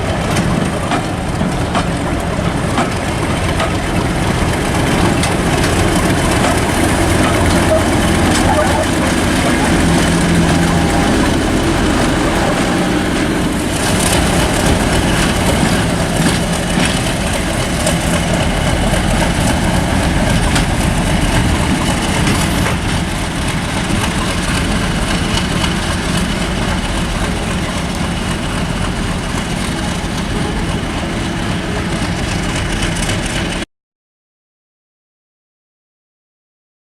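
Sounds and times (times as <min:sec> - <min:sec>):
diesel locomotive engine idling: 0:00.0 - 0:33.6.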